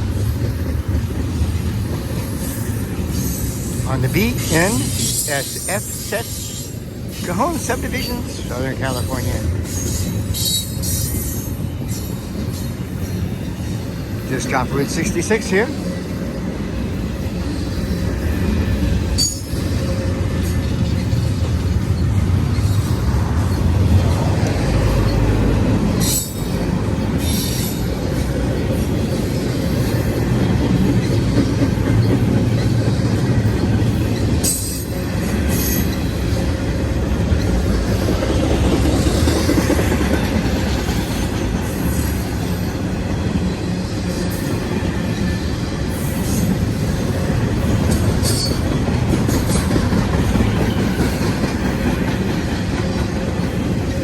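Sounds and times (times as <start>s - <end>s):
freight train rumbling past: 0.0s - 54.0s
train wheel squeals: 1.6s - 36.7s, 37.3s - 54.0s.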